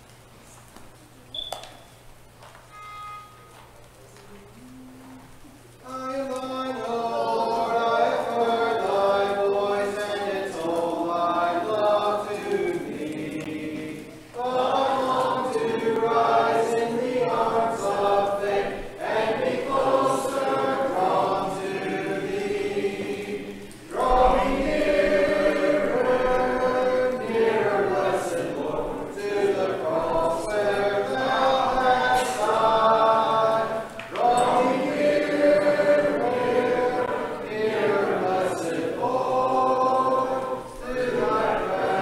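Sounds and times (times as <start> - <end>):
congregation singing a hymn: 5.8 - 42.0.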